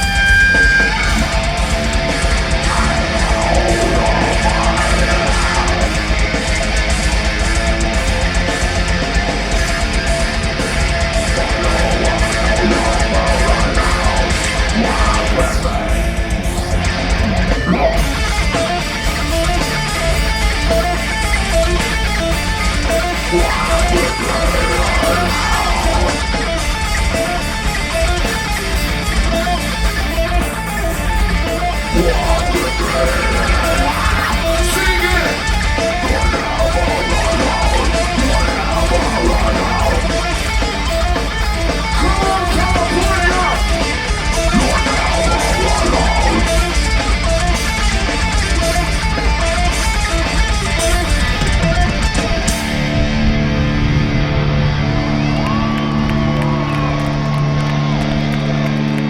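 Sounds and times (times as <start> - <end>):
electric guitars held chord: 0.0 - 59.0
heavy metal band playing: 0.0 - 59.0.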